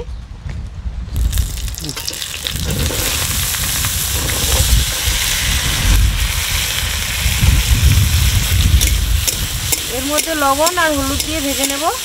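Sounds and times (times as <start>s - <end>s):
potatoes sizzling in oil: 1.2s - 12.0s.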